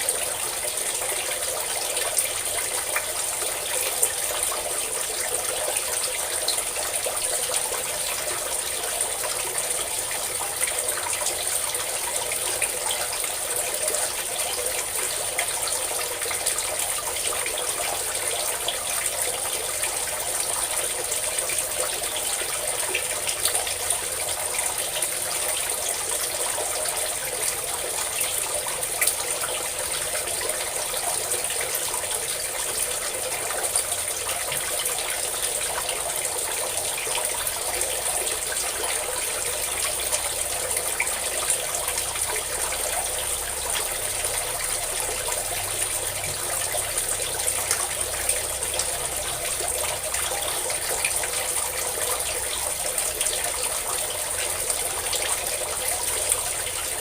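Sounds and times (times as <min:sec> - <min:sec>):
water pouring and splashing: 0:00.0 - 0:57.0.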